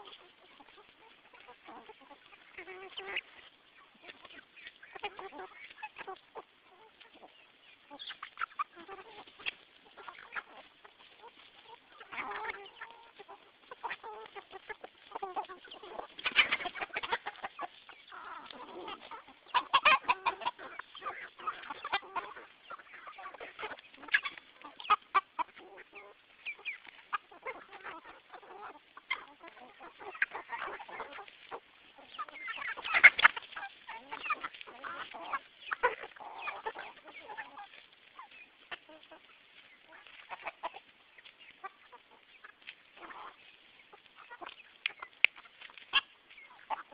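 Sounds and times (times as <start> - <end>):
hens clucking: 0.0 - 46.9.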